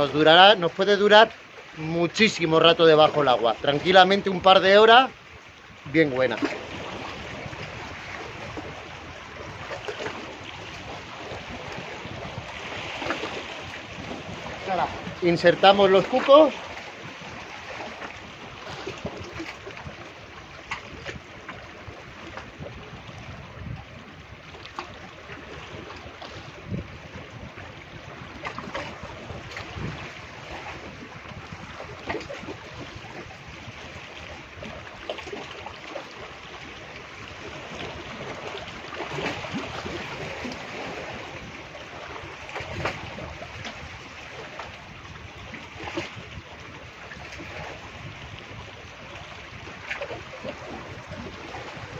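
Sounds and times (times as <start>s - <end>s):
sea washing against rocks: 0.0s - 5.2s, 5.8s - 51.9s.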